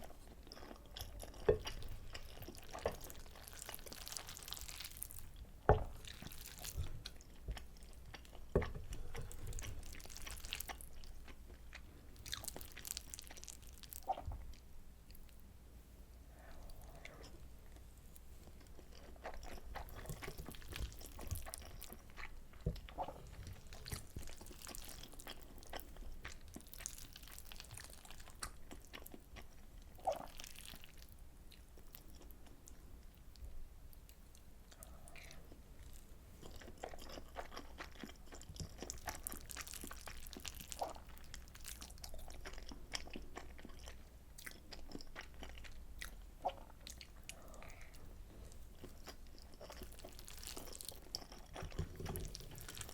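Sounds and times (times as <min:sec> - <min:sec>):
close-miked chewing: 0:00.0 - 0:15.4, 0:16.3 - 0:52.9.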